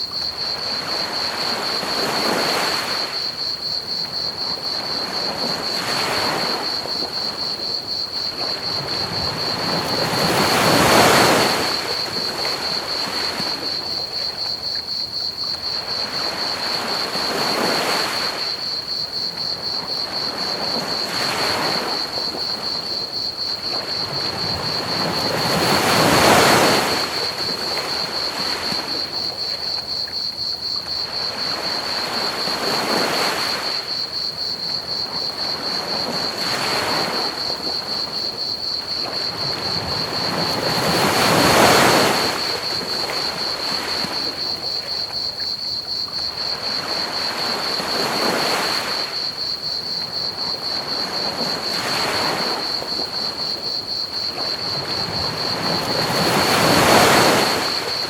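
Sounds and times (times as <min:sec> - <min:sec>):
crickets chirping: 0:00.0 - 0:58.0
ocean waves washing on beach: 0:00.0 - 0:58.0.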